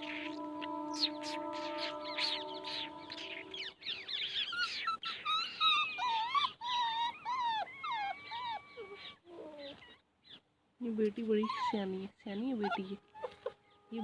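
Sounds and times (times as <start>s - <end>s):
puppies whining and squealing: 0.0s - 10.0s, 11.2s - 14.0s.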